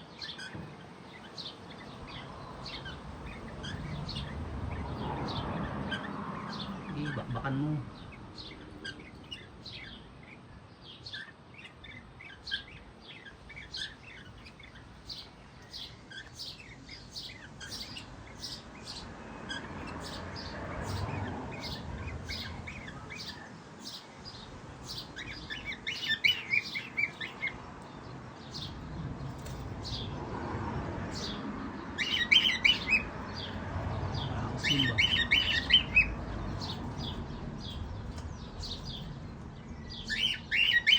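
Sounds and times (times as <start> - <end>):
cockatiels chirping: 0.2 - 20.2, 20.8 - 24.1, 24.9 - 27.6, 32.0 - 33.6, 34.6 - 39.1, 39.8 - 40.9.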